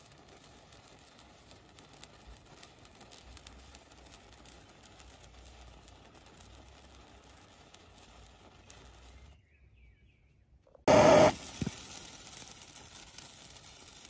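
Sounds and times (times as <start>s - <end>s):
sparkler hissing and crackling: 0.0s - 9.4s, 10.9s - 14.0s.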